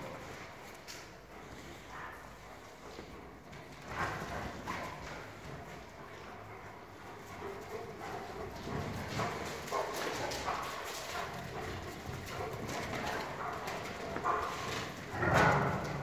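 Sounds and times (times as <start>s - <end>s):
dogs moving about: 0.0s - 16.0s.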